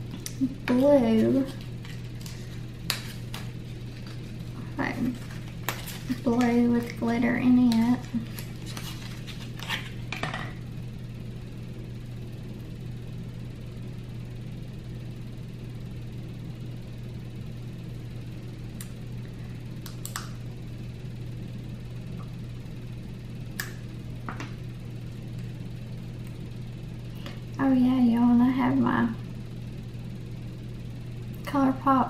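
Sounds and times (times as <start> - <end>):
room tone hum: 0.0 - 32.0.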